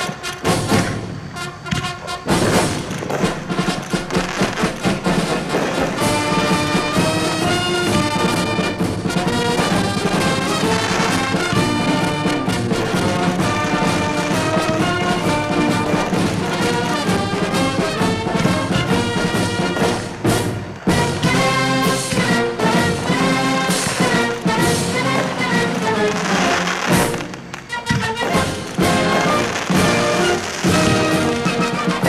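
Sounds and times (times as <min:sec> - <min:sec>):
orchestral music with brass: 0:00.0 - 0:32.0.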